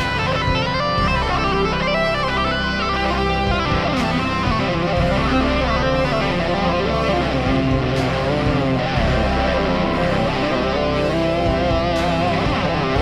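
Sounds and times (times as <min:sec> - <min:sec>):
bass: 0:00.0 - 0:13.0
electric guitar music: 0:00.0 - 0:13.0.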